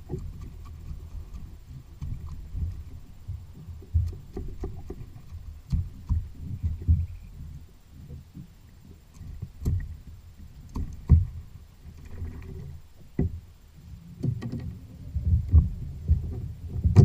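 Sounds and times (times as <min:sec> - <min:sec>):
low rumble of water and hull: 0:00.0 - 0:17.0.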